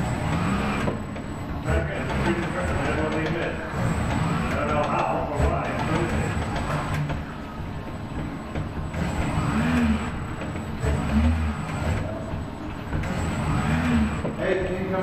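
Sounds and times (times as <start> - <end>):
robot arm servo motors whining: 0.0 - 7.4, 8.5 - 14.4
low machine hum: 0.0 - 15.0.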